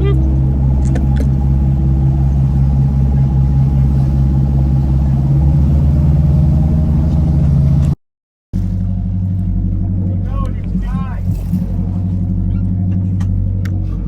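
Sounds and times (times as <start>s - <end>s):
boat engine drone: 0.0s - 8.0s, 8.6s - 14.0s.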